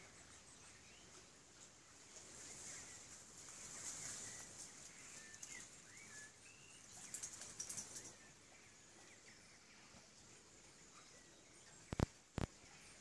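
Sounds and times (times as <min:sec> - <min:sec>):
faint birdsong: 0:00.0 - 0:13.0
steady high-pitched hiss: 0:00.0 - 0:13.0.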